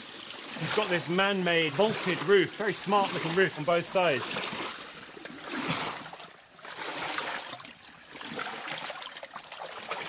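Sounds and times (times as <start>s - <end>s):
shallow water sloshing: 0.0s - 10.0s.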